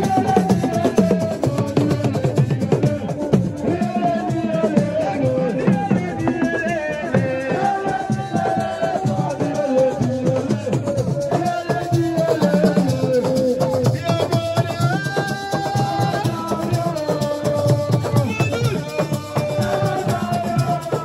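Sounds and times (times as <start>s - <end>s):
fast dense percussion: 0.0s - 21.0s
rattle or shaker: 0.0s - 21.0s.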